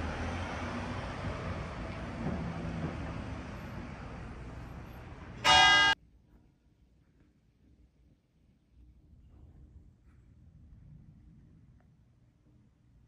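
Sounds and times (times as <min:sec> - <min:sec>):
outdoor ambience: 0:00.0 - 0:13.0.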